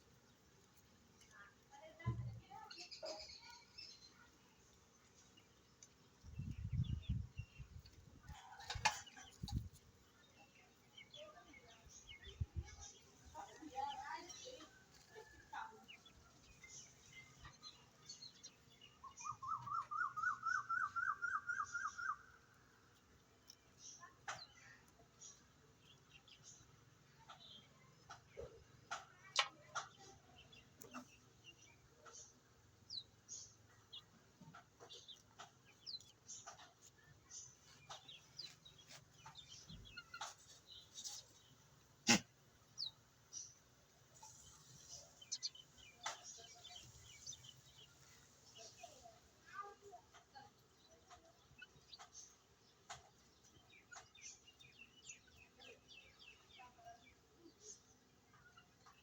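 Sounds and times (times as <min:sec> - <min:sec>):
bird chirping: 0:01.4 - 0:22.4, 0:23.3 - 0:59.0
chicks peeping: 0:05.0 - 0:21.5, 0:22.3 - 0:59.0.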